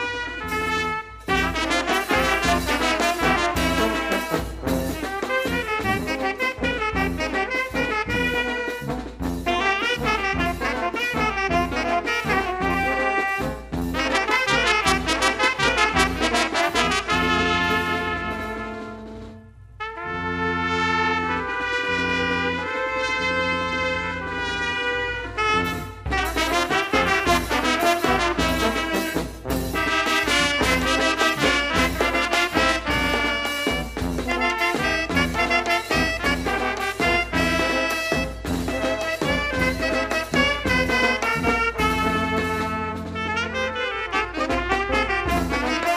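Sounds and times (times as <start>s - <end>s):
snare and bass drum beats: 0.0s - 19.4s, 25.4s - 45.9s
brass band playing: 0.0s - 45.9s
cymbals: 0.0s - 45.9s
trumpets and saxophone melody: 0.0s - 45.9s.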